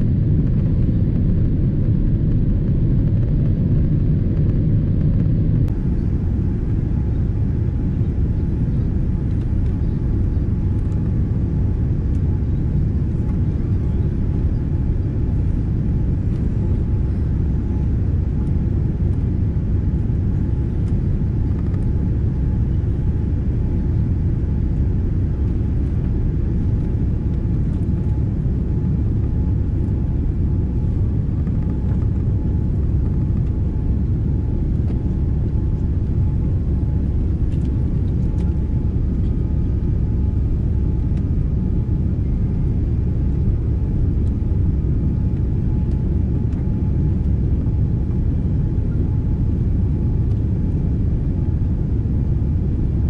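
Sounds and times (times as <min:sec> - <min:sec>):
aircraft cabin engine rumble: 0:00.0 - 0:53.0
faint steady hum: 0:00.0 - 0:53.0.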